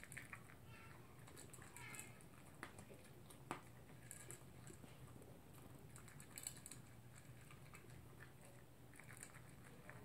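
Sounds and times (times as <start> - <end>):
dog eating from bowl: 0.0 - 10.0
low steady hum: 0.0 - 10.0.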